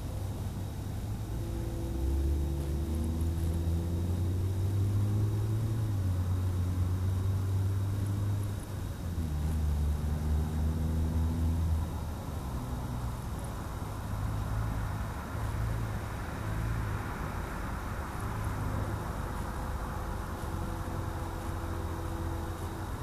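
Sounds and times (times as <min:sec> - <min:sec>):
car exhaust drone: 0:00.0 - 0:23.0.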